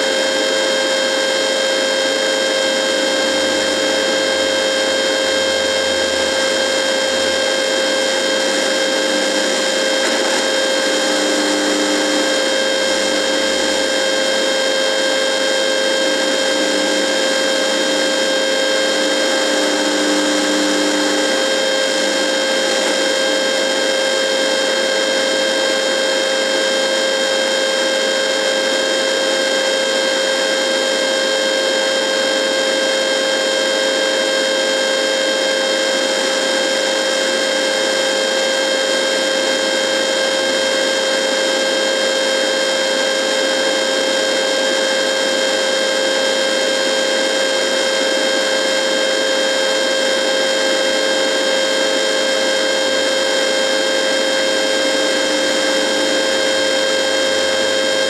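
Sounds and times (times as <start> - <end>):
radio electrical buzz: 0.0 - 32.8, 33.4 - 58.0.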